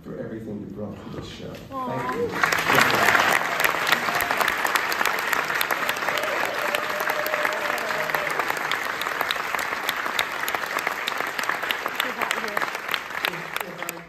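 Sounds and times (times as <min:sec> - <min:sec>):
audience applauding: 0:01.9 - 0:14.0.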